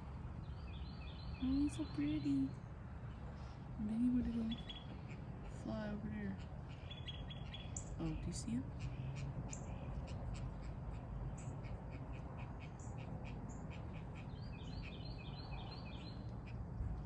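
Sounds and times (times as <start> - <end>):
birds chirping: 0.4 - 16.6.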